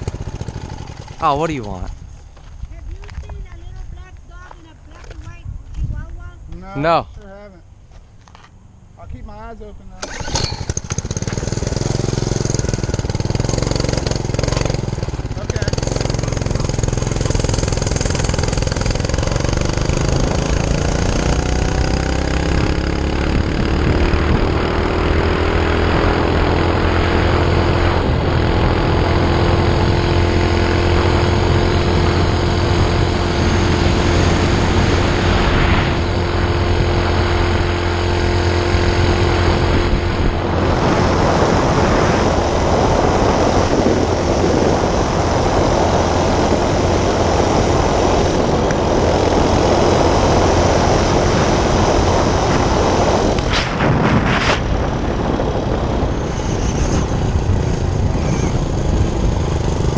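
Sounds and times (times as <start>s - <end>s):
minibike engine revving: 0.0s - 2.5s, 10.0s - 59.9s.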